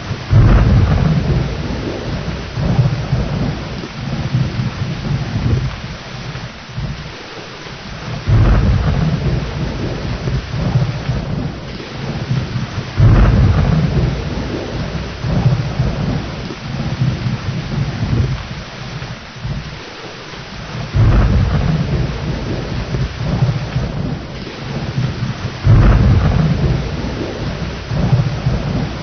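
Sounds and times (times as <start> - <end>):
rumbling thunder: 0.0 - 29.0
steady rain: 0.0 - 29.0.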